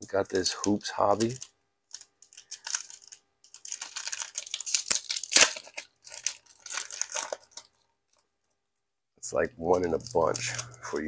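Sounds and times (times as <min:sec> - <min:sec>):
card pack wrapper crinkling and ripping: 0:00.1 - 0:07.8, 0:09.6 - 0:11.0.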